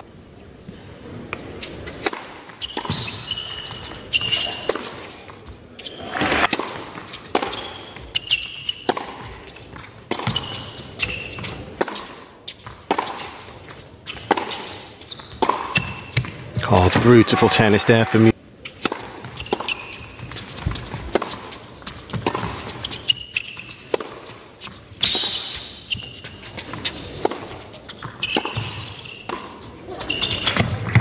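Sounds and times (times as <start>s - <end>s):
tennis ball bouncing: 1.4s - 17.2s, 18.7s - 31.0s
rackets striking tennis ball: 1.4s - 31.0s
shoes squeaking on court: 1.4s - 31.0s.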